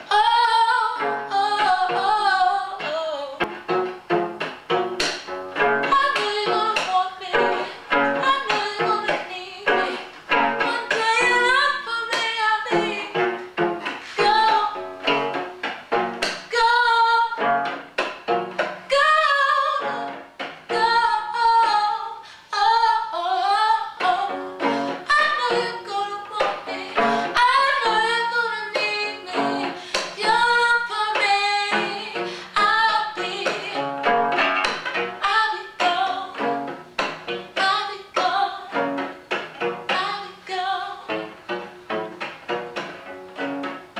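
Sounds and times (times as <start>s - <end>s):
woman singing: 0.0s - 3.5s, 5.6s - 15.4s, 16.2s - 17.9s, 18.8s - 39.2s, 39.8s - 41.4s
cello plucked and bowed: 0.1s - 22.0s, 23.2s - 40.5s.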